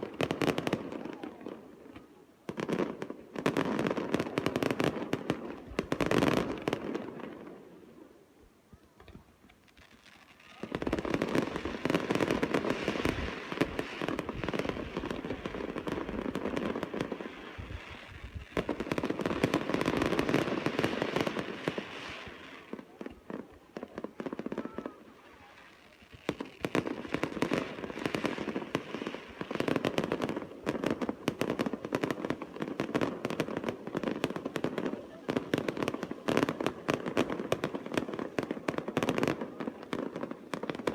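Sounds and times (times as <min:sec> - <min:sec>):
fireworks crackling and popping: 0:00.0 - 0:40.9.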